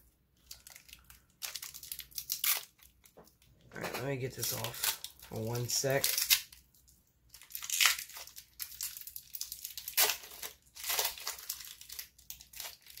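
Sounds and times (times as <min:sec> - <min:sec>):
plastic packaging crinkling: 0:00.4 - 0:13.0.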